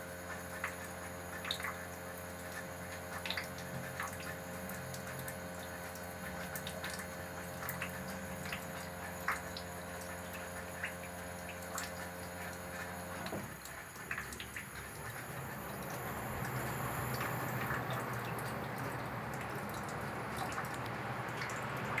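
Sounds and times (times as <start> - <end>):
dripping meltwater ticks: 0.0 - 22.0
air conditioner humming: 2.5 - 22.0.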